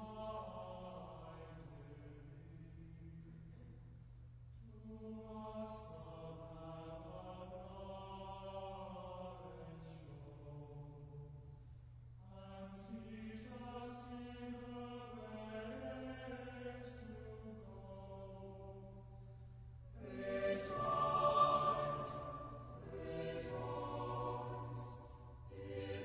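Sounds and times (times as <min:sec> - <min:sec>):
chant in long held notes: 0:00.0 - 0:03.7, 0:04.6 - 0:11.4, 0:12.3 - 0:19.3, 0:19.9 - 0:26.0.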